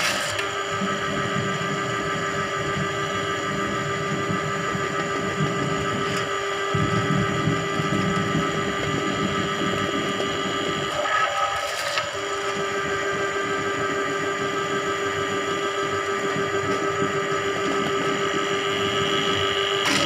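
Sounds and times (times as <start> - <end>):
drain-cleaning machine humming: 0.0 - 20.0.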